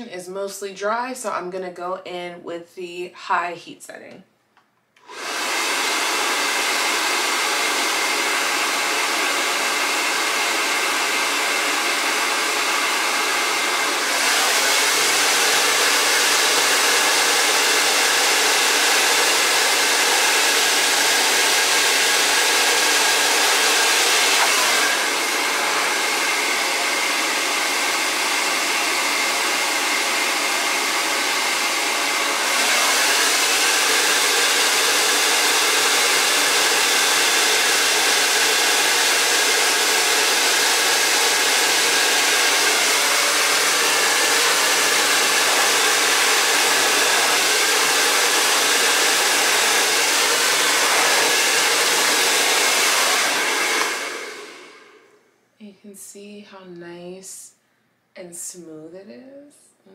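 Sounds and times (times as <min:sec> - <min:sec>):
hair dryer running: 0:05.0 - 0:55.2.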